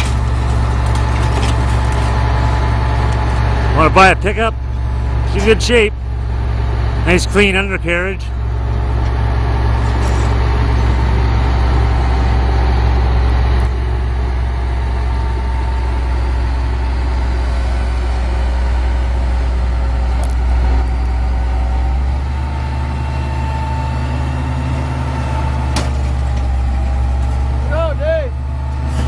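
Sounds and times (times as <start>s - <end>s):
large vehicle engine rumbling: 0.0s - 29.0s.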